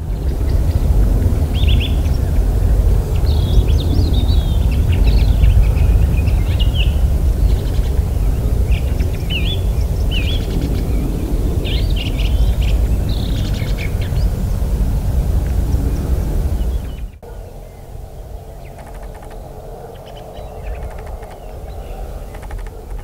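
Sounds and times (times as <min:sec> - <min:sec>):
loud steady low rumble: 0:00.0 - 0:23.0
small birds chirping: 0:00.0 - 0:23.0.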